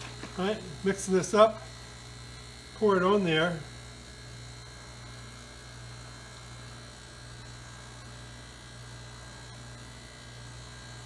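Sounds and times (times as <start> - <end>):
refrigeration compressor humming: 0.0 - 11.0.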